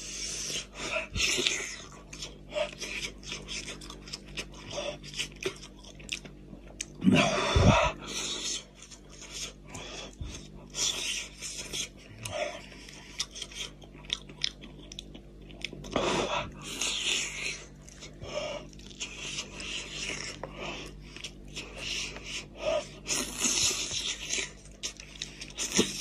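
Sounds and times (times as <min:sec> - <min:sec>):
person chewing and biting meat: 0:00.3 - 0:26.0.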